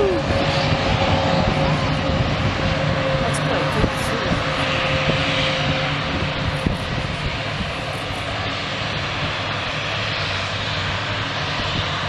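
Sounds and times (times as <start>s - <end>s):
small aircraft engine drone: 0.0s - 12.0s.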